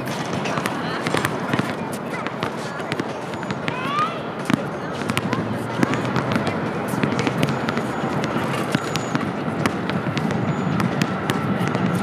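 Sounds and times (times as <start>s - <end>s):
basketball bouncing on asphalt: 0.0s - 12.0s.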